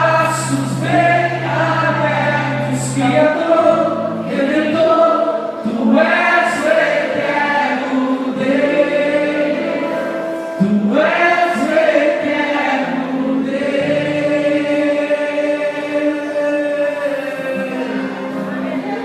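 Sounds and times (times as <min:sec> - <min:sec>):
congregation singing worship song: 0:00.0 - 0:19.0.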